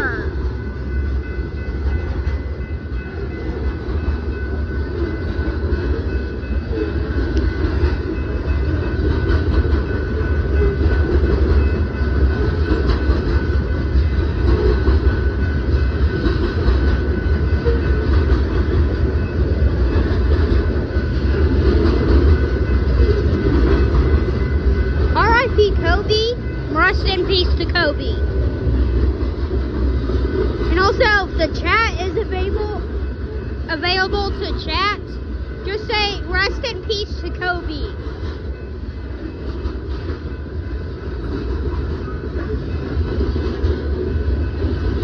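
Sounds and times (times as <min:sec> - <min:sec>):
freight train wheels rumbling on rails: 0:00.0 - 0:45.0.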